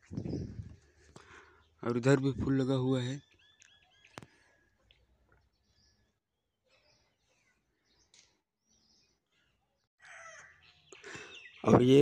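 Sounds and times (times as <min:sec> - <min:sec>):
faint bird chirps: 0:00.0 - 0:12.0
outdoor background noise: 0:00.0 - 0:12.0.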